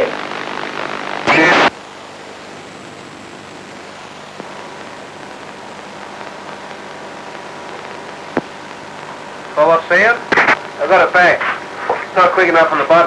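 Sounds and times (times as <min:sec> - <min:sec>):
faint hum tones: 0:00.0 - 0:13.0
radio receiver hiss: 0:00.0 - 0:13.0.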